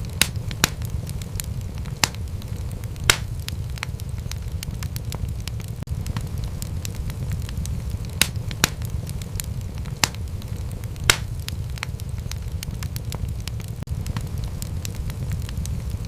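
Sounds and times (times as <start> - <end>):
low rumble of flames: 0.0 - 16.0
wood fire snaps and pops: 0.0 - 16.0.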